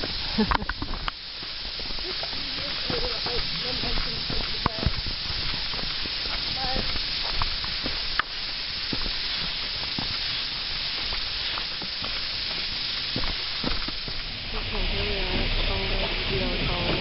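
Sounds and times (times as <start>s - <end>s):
footsteps on dirt track: 0.0s - 14.3s
steady hiss: 0.0s - 17.0s.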